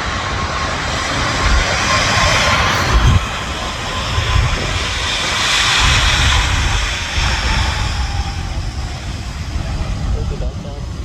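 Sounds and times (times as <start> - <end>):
wind buffeting microphone: 1.4 - 11.0
jet engines running: 2.0 - 11.0.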